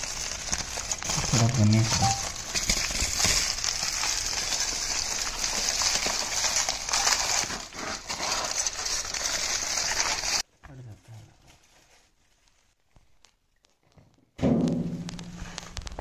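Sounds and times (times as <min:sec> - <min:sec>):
aluminium foil crinkling: 0:00.0 - 0:10.5, 0:11.4 - 0:13.8, 0:15.0 - 0:16.0.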